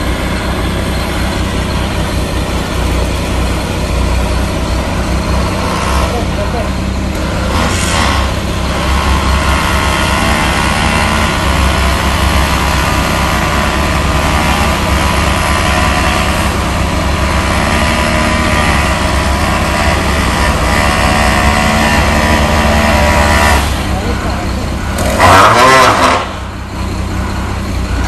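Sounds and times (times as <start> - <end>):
diesel engine running steadily: 0.0 - 28.0.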